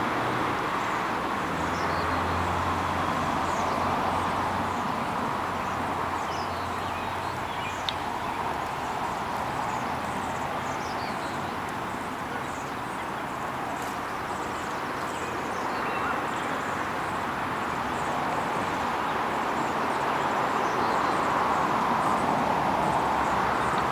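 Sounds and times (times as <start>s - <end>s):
outdoor background rush: 0.0s - 23.9s.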